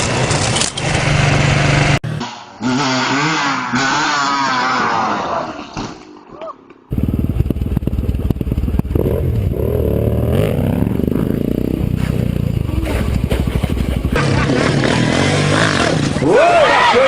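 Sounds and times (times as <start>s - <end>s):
motorbike engine revving: 0.0s - 5.6s, 6.9s - 16.6s.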